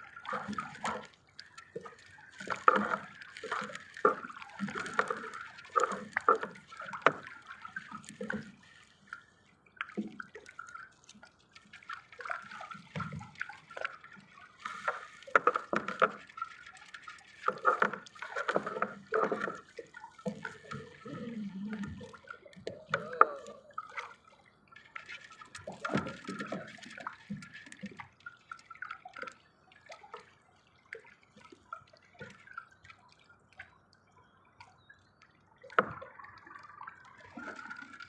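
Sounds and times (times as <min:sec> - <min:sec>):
water splashing and sloshing: 0:00.0 - 0:38.0.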